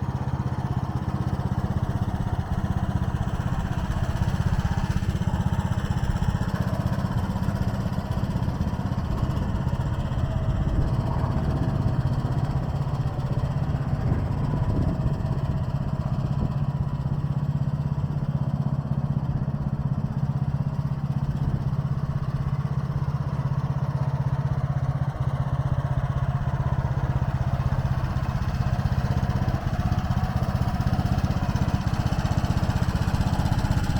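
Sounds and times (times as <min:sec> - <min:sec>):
small engine idling: 0:00.0 - 0:33.9.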